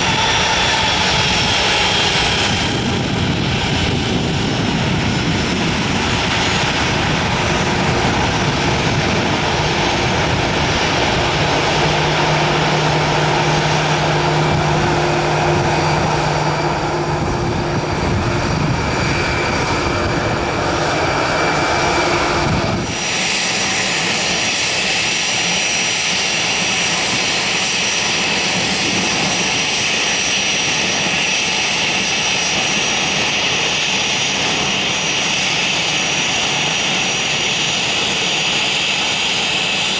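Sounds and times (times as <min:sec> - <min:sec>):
jet engines taxiing: 0:00.0 - 0:39.9.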